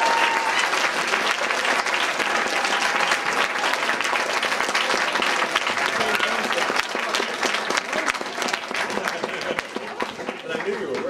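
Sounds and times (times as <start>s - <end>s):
crowd applause: 0.0s - 11.0s.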